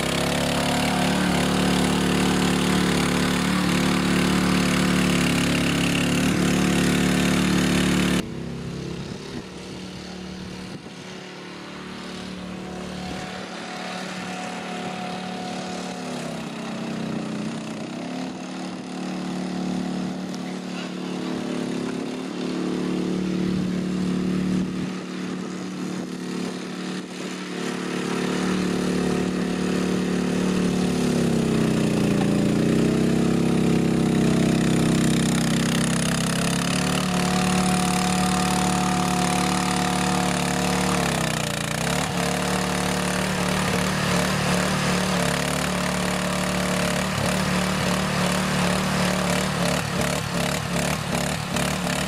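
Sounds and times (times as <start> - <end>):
mini dumper engine running: 0.0 - 52.0.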